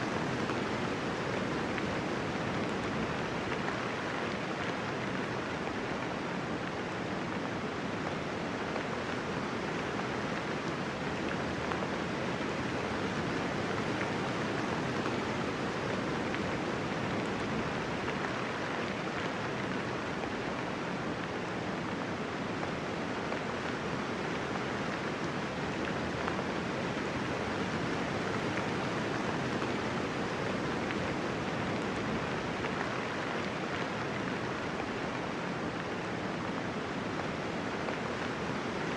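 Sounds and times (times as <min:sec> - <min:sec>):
light rain falling: 0:00.0 - 0:38.9.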